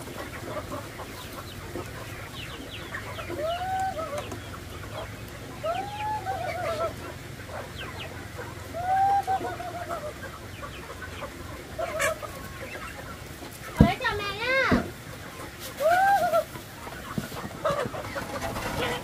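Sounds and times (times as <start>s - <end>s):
chickens clucking and chirping: 0.0s - 19.0s
long arching chicken calls: 0.0s - 19.0s.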